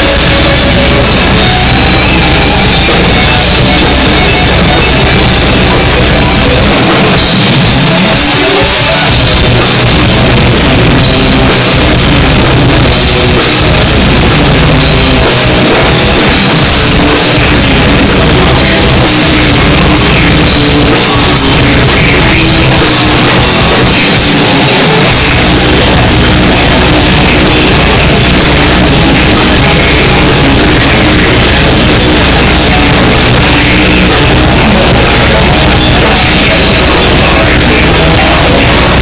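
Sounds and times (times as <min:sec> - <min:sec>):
metal band playing live: 0:00.0 - 0:39.0.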